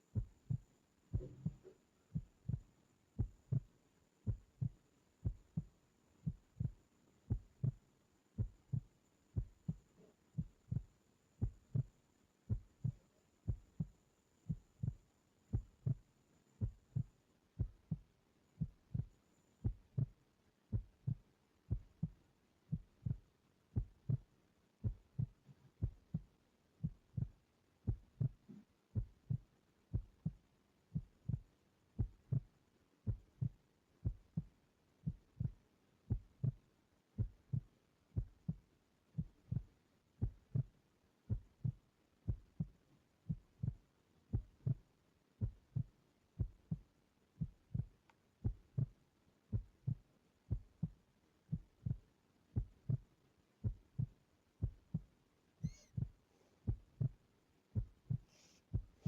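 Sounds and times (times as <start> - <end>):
heartbeat double thumps: 0.0 - 7.8, 8.4 - 28.4, 29.0 - 32.5, 33.1 - 38.6, 39.2 - 57.2, 57.8 - 59.0.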